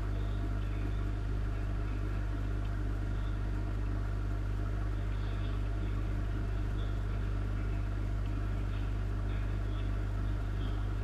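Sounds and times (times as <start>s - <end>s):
aquarium air pump humming: 0.0s - 11.0s.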